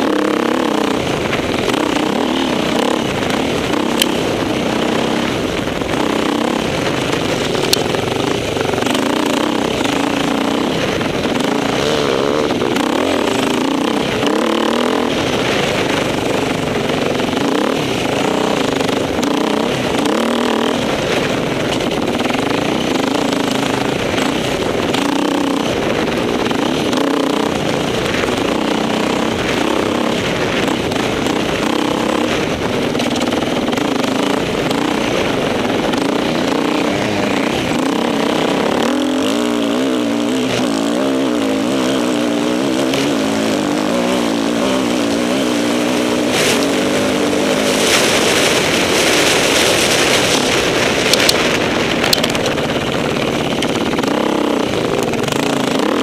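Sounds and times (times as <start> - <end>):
off-road motorcycle engine revving: 0.0 - 56.0.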